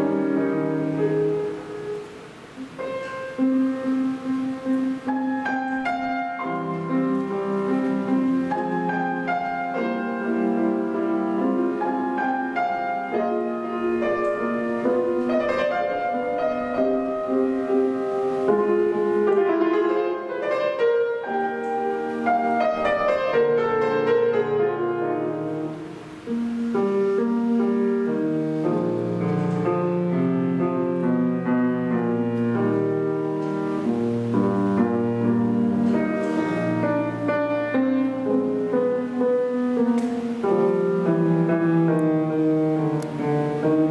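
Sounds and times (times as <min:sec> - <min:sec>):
solo piano classical piece: 0:00.0 - 0:43.9.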